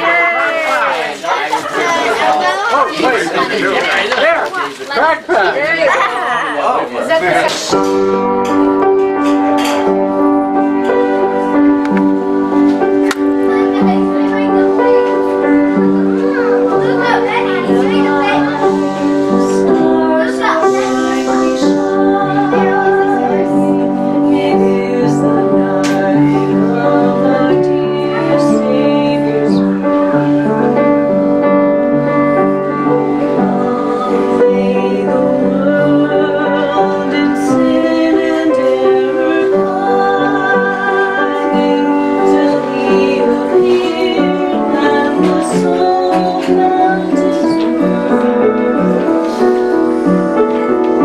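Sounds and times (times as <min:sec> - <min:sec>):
song with singing over piano: 0:07.5 - 0:51.0.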